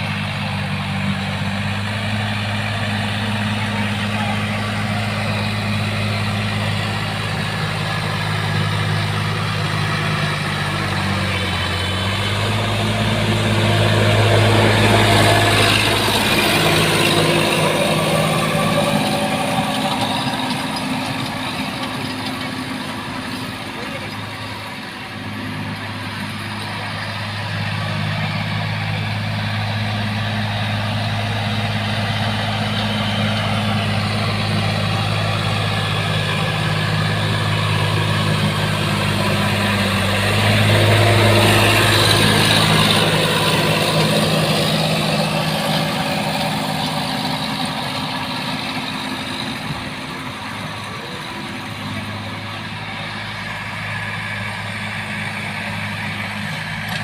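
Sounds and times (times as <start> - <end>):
tractor diesel engine humming: 0.0 - 57.0.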